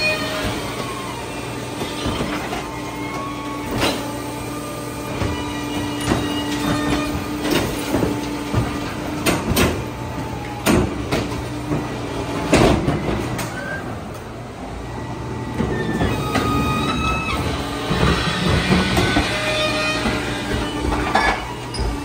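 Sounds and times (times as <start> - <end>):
trash cart clanking and banging: 0.0 - 14.4, 15.2 - 22.0.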